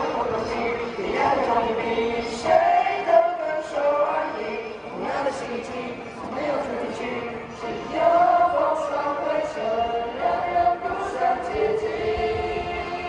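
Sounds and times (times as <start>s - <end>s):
choir singing long held notes: 0.0s - 13.0s.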